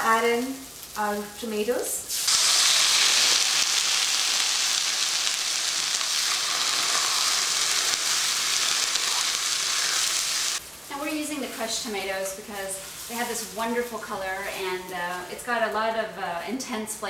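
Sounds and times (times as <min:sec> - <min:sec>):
food sizzling in frying pan: 0:00.0 - 0:15.5.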